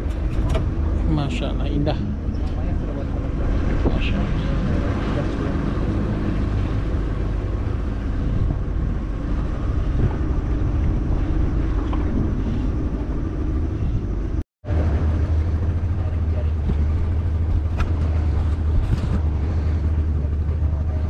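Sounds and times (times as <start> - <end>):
boat motor running: 0.0 - 21.0
water noise: 0.0 - 21.0
wind noise: 2.2 - 20.0.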